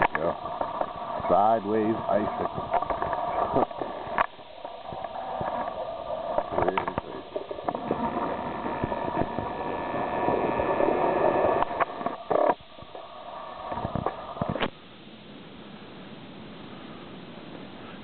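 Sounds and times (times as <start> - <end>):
crackles: 0.0 - 18.0.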